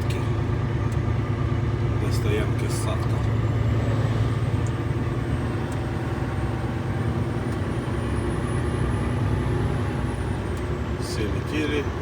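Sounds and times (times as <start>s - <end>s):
truck engine rumble from inside cab: 0.0s - 12.0s.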